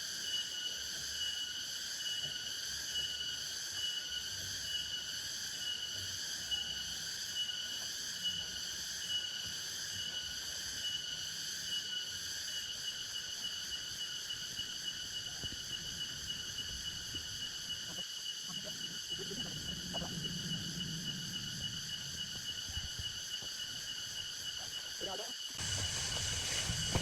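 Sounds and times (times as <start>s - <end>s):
forest insects whining: 0.0s - 27.0s.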